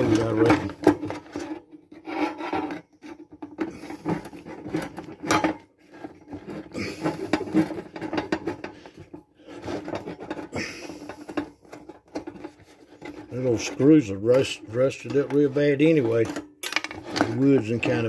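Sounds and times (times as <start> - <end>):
metal rattling against wood: 0.0 - 18.0.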